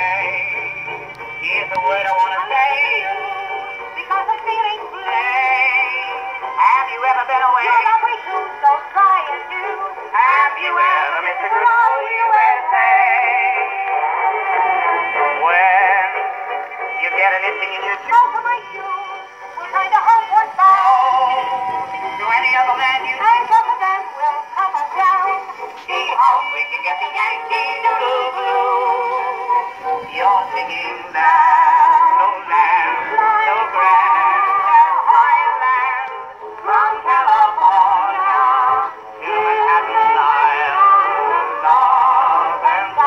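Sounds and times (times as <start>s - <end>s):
phonograph record of singer: 0.0s - 43.0s.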